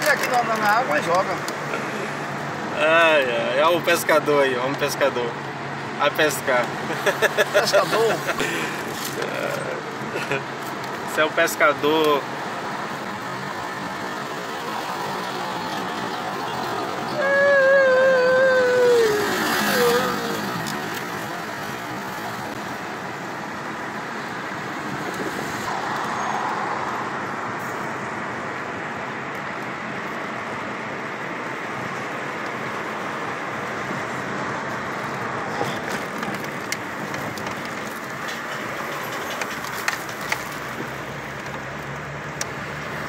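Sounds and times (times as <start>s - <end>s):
road and wind noise in car: 0.0s - 43.0s.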